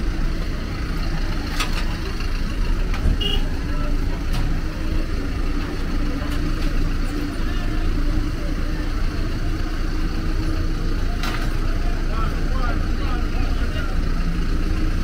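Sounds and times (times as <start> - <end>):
minibus engines idling: 0.0 - 15.0.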